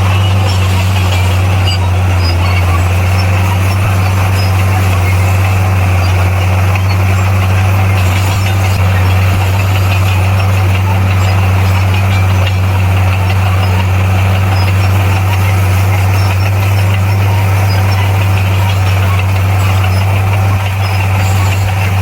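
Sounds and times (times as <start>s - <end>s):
bulldozer diesel engine droning: 0.0s - 22.0s.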